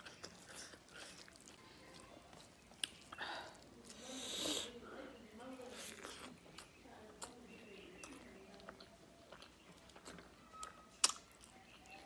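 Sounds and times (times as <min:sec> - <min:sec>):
mouth chewing smacks and clicks: 0:00.0 - 0:04.7, 0:05.6 - 0:12.0.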